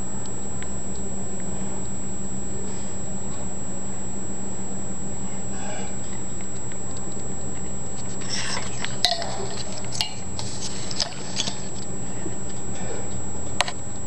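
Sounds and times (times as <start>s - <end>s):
steady hum and high whine: 0.0s - 14.0s.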